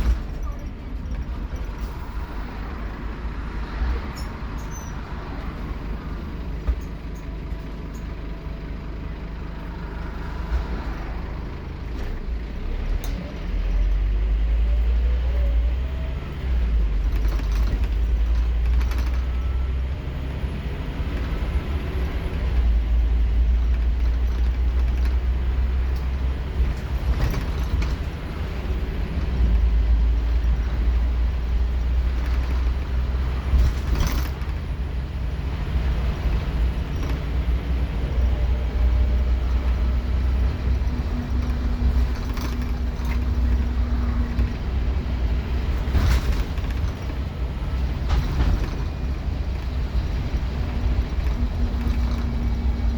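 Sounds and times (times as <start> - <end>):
bus body rattles: 0.0 - 52.9
bus diesel engine accelerating: 0.0 - 52.9.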